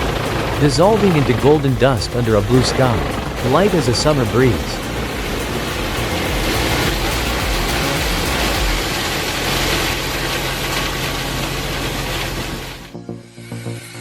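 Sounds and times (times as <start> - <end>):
wood chipper grinding wood: 0.0 - 13.0
heavy engine hum: 0.0 - 14.0.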